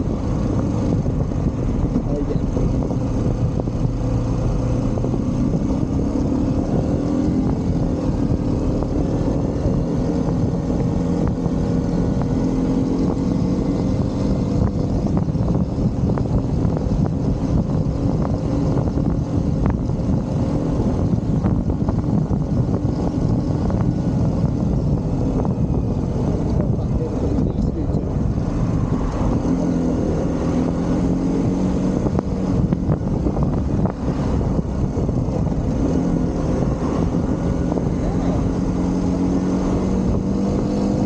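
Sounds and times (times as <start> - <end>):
motorcycle engine cruising: 0.0 - 41.0
road and wind noise: 0.0 - 41.0.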